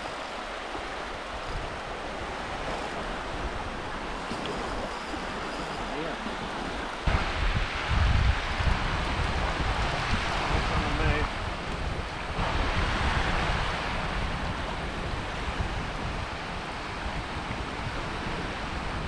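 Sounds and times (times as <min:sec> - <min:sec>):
small waves breaking on beach: 0:00.0 - 0:19.0
wind buffeting microphone: 0:00.0 - 0:19.0.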